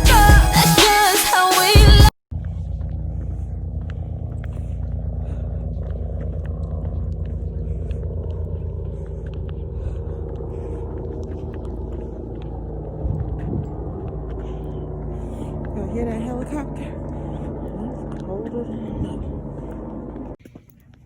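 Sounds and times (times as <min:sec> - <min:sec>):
helicopter rotor thrum: 0:01.8 - 0:21.0.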